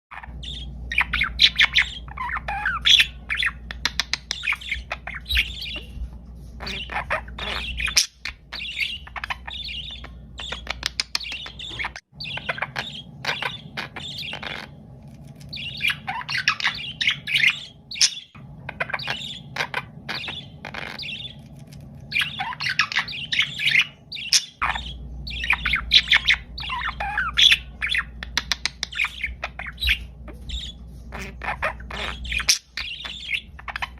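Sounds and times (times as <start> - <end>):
budgerigars chattering: 0.1 - 33.9
faint low hum: 0.1 - 33.9.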